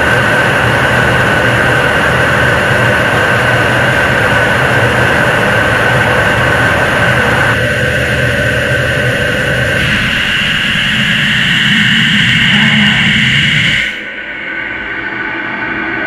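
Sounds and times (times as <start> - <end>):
rocket engine firing: 0.0 - 15.1.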